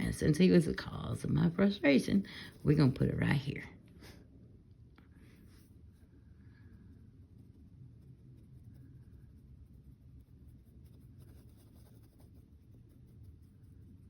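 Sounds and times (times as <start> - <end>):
low steady hum: 0.0 - 14.0
paintbrush strokes: 0.3 - 4.2, 5.1 - 14.0.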